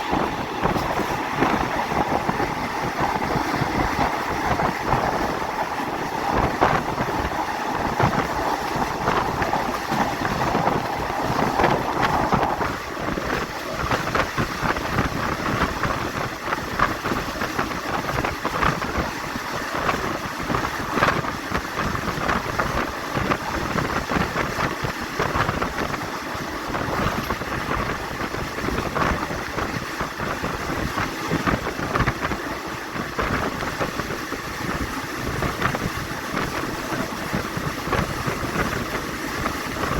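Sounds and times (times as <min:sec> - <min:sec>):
train wheels rumbling and rattling: 0:00.0 - 0:39.9
wind buffeting microphone: 0:00.0 - 0:39.9.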